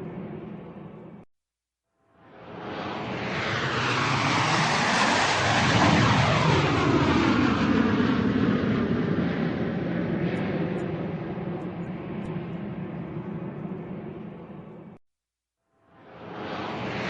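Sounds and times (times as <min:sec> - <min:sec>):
airplane flying overhead: 0:00.0 - 0:01.3, 0:02.2 - 0:15.0, 0:15.9 - 0:17.0.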